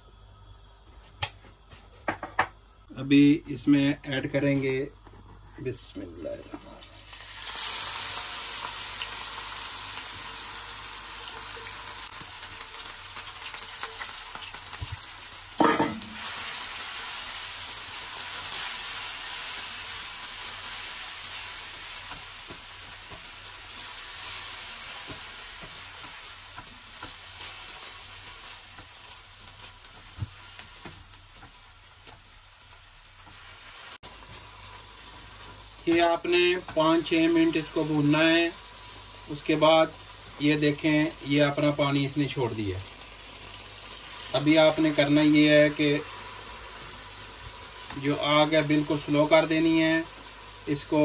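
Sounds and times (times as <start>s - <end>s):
apple sizzling in a pan: 0.0s - 51.0s.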